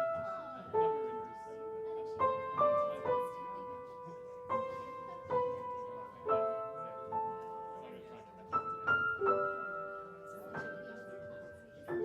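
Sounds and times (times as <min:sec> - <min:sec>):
piano playing slow melody: 0:00.0 - 0:12.0.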